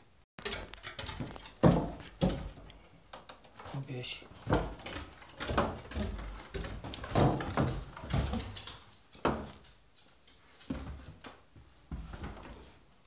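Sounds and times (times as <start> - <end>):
footsteps down a staircase: 0.4 - 13.0.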